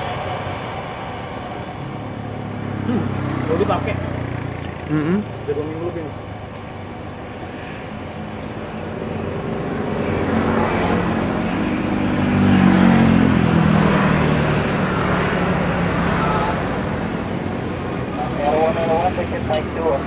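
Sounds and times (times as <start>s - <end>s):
jet engines roaring: 0.0s - 4.8s, 5.4s - 20.0s.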